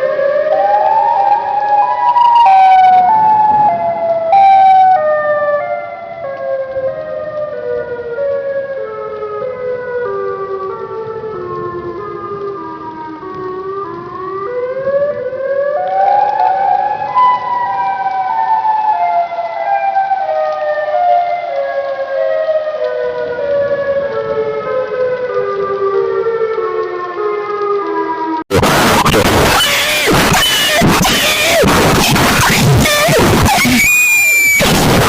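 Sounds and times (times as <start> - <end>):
siren wailing: 0.0 - 35.0.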